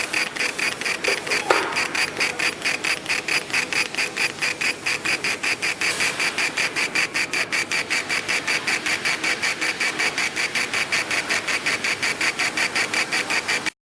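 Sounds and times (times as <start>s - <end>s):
laser engraver head buzzing: 0.0s - 13.8s.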